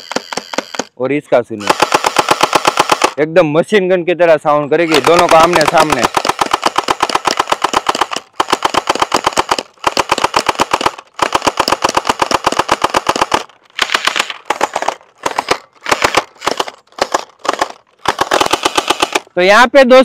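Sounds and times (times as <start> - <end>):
toy guns firing rapidly: 0.0 - 1.0, 1.6 - 3.2, 4.8 - 19.3.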